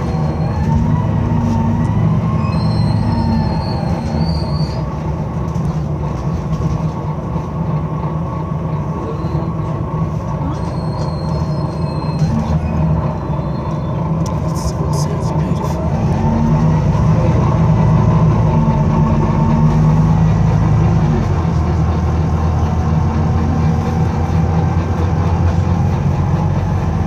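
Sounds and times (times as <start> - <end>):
bus diesel engine drone: 0.0 - 27.0.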